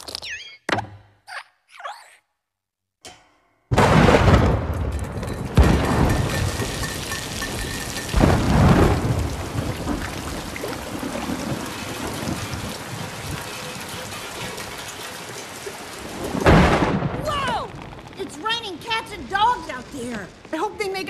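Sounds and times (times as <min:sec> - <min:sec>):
thunderclap: 0:03.7 - 0:21.0
heavy rain: 0:03.8 - 0:21.0.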